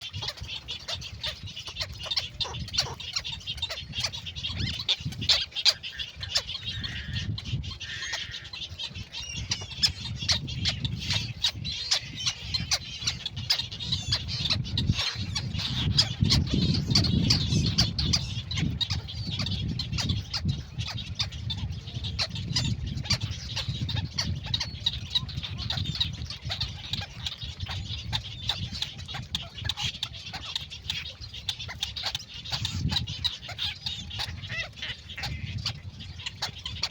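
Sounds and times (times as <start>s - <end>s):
birds calling: 0.0s - 36.9s.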